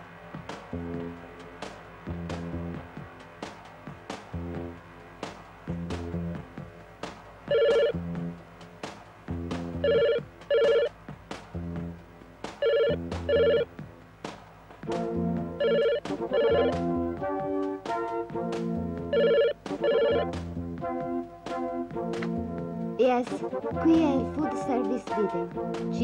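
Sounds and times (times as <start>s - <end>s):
music with beat and bass: 0.0s - 26.0s.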